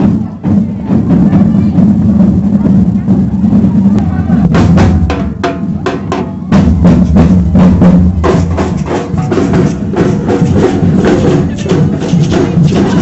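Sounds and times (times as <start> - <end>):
marching band drums: 0.0 - 13.0.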